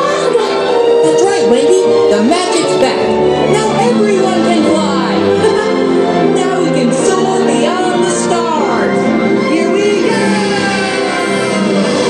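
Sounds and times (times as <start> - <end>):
loud show soundtrack music: 2.1 - 12.0.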